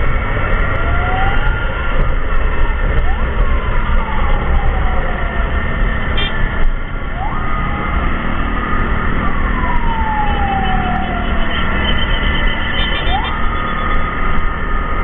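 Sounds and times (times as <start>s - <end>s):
emergency sirens wailing: 0.0s - 15.0s
low vehicle rumble: 0.0s - 15.0s.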